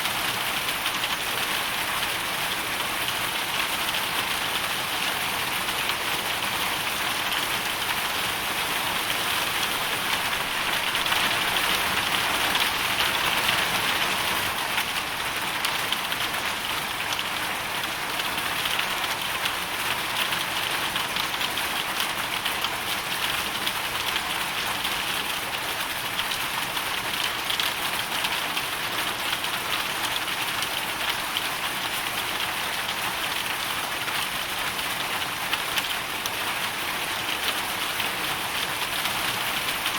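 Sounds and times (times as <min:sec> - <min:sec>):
hail and rain pattering: 0:00.0 - 0:39.9.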